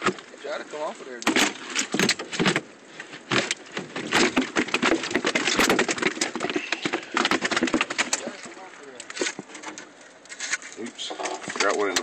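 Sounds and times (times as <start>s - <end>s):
water splashing: 0.0s - 12.0s
crackling and knocking: 1.2s - 12.0s.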